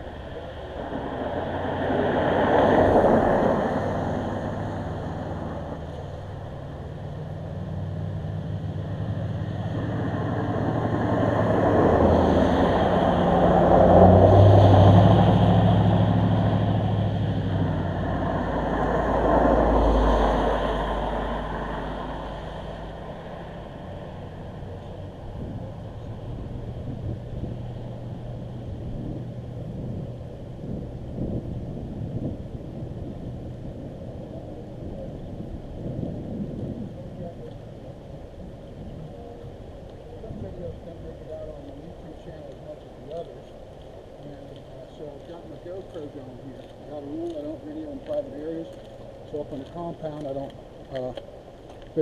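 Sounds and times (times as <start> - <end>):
road vehicles passing: 0.0 - 52.0.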